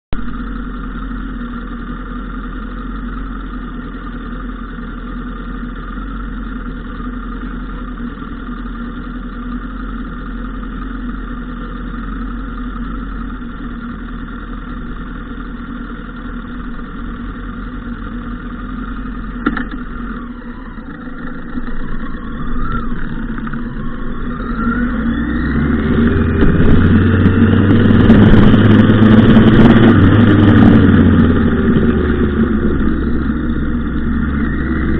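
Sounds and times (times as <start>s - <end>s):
motorcycle engine accelerating: 0.1s - 34.9s.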